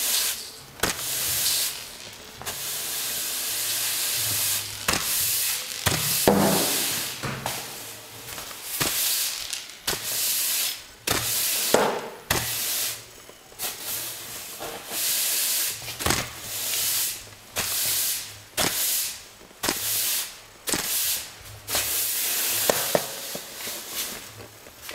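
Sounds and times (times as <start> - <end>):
push broom sweeping hard floor: 0.0 - 24.9.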